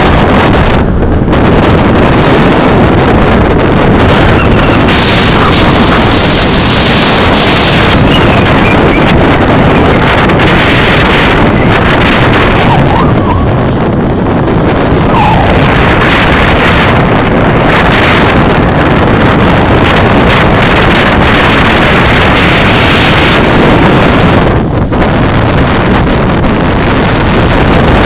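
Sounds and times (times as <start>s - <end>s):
water noise: 0.0s - 28.0s
wind buffeting microphone: 0.0s - 28.0s.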